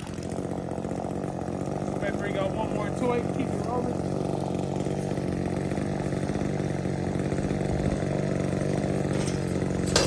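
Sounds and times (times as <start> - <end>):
chainsaw running: 0.0 - 10.0.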